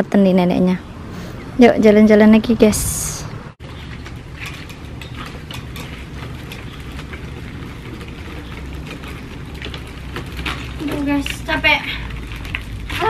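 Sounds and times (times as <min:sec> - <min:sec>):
low outdoor rumble: 0:00.0 - 0:13.0
wheelchair rolling on rough asphalt: 0:00.4 - 0:13.0.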